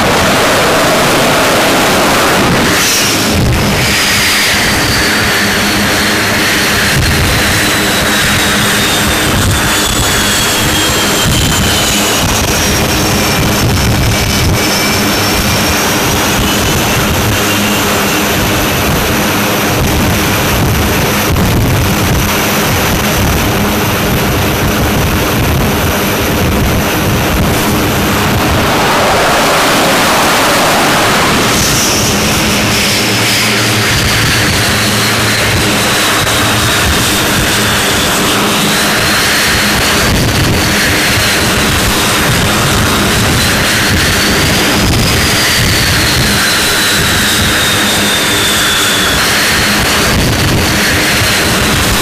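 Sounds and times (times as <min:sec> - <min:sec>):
jet engines roaring: 0:00.0 - 0:52.0.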